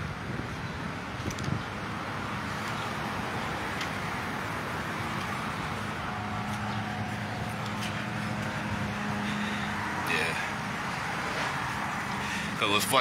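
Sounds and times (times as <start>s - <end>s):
road traffic noise: 0.0s - 13.0s
vehicle engine hum: 0.0s - 13.0s.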